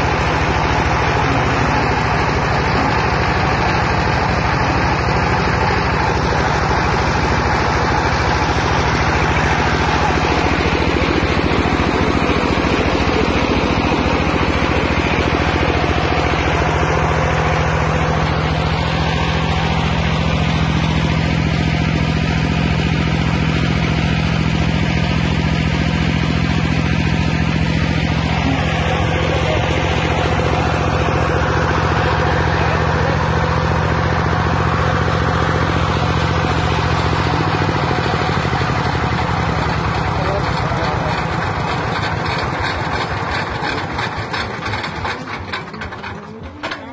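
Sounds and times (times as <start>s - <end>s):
grinding mill running: 0.0s - 46.9s.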